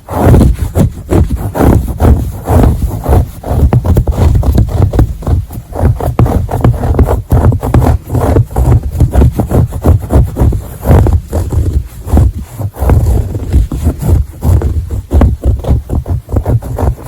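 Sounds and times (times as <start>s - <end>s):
scratching on fabric: 0.0s - 17.0s.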